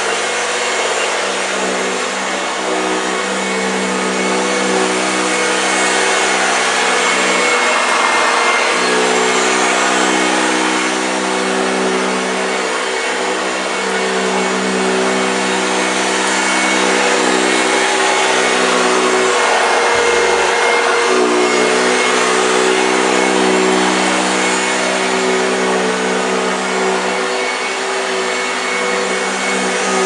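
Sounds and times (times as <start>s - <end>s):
upright vacuum cleaner running: 0.0s - 30.0s.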